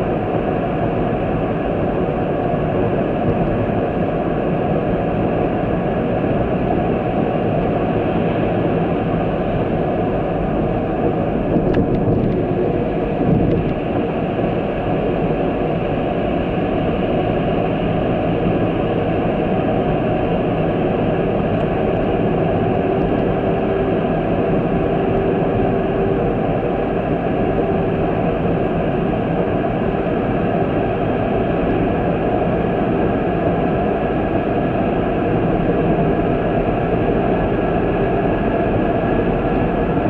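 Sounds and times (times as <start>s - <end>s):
vehicle engine and road noise: 0.0s - 40.0s.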